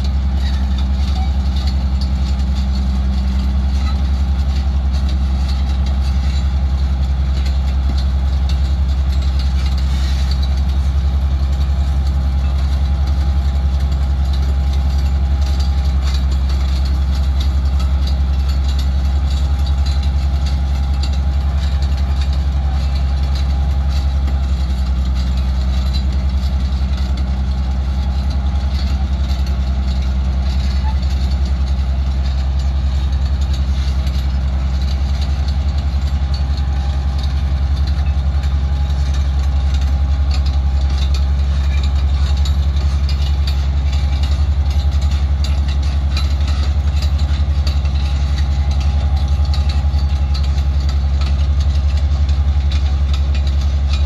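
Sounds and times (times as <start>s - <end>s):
bulldozer diesel engine drone: 0.0s - 54.0s.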